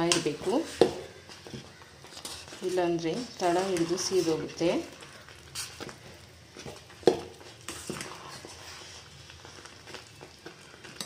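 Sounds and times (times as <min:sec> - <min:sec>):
spoon stirring in metal pot: 0:00.0 - 0:11.0.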